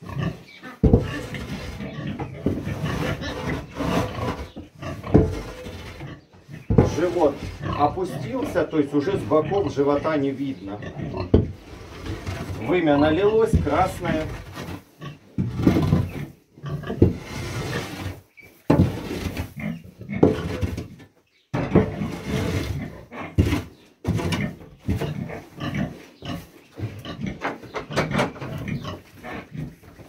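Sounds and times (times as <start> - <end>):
pig grunting: 0.0 - 18.2, 21.8 - 23.6, 24.3 - 29.9.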